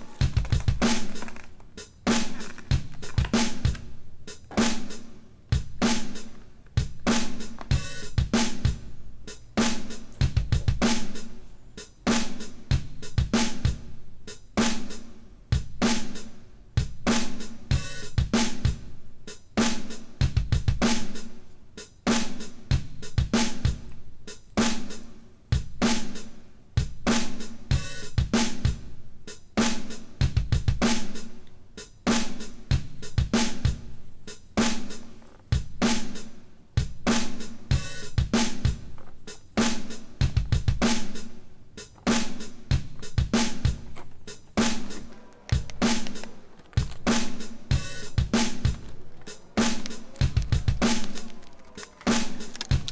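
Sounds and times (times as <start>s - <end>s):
drum kit beat: 0.0s - 52.9s.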